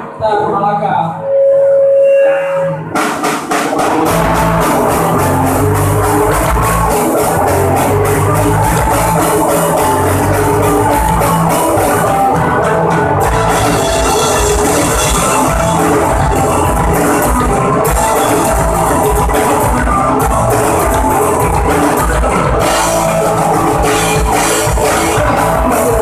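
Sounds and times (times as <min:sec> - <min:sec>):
bass guitar: 0:01.1 - 0:26.0
electric guitars: 0:01.1 - 0:26.0
drum kit: 0:02.3 - 0:26.0.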